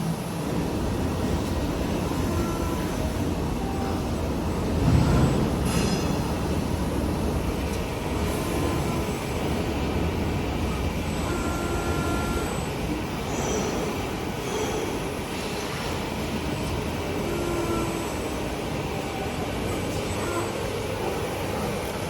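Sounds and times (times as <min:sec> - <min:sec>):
industrial machinery noise: 0:00.0 - 0:22.0.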